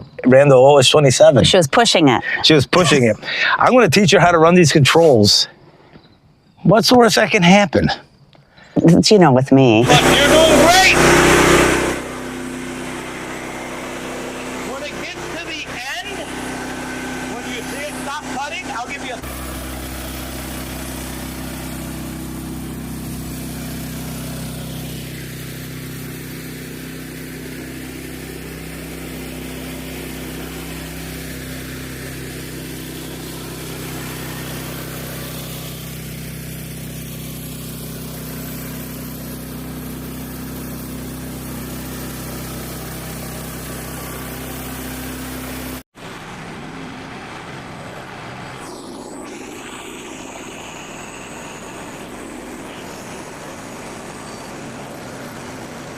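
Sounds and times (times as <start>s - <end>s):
sawmill engine running: 9.6s - 55.9s
falling high whine: 9.8s - 55.9s
rough mechanical noise: 9.8s - 55.9s.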